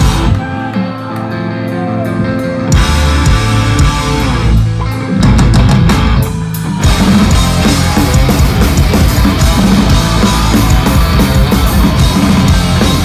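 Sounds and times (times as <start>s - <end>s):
punk band playing live: 0.0s - 13.0s.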